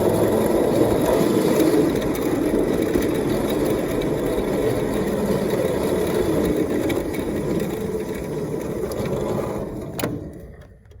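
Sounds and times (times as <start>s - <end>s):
model locomotive clatter: 0.0s - 11.0s.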